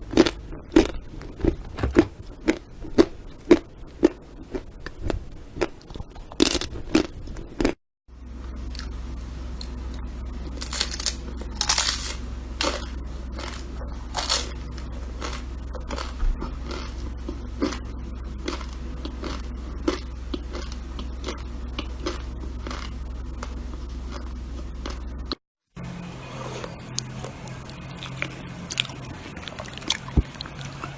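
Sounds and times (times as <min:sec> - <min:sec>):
crunching and crackling: 0:00.0 - 0:07.8, 0:08.7 - 0:25.4, 0:26.6 - 0:30.9
steady low hum: 0:00.0 - 0:30.9.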